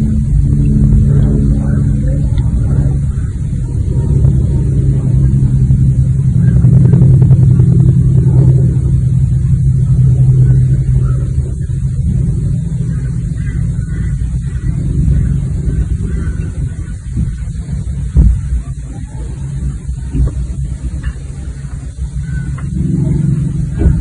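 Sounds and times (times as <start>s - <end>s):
car engine humming: 0.0s - 24.0s.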